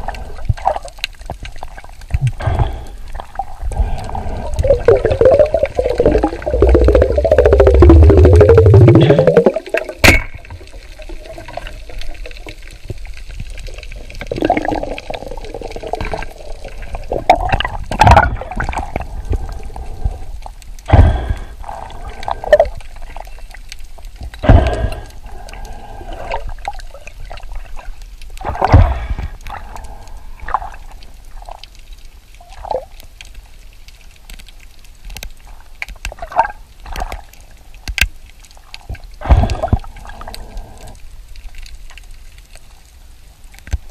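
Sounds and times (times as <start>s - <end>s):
water sloshing and bubbling underwater: 0.0s - 43.9s.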